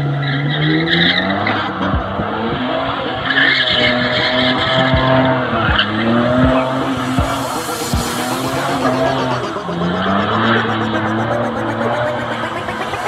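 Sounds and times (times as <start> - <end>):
car engine revving high: 0.0 - 13.0.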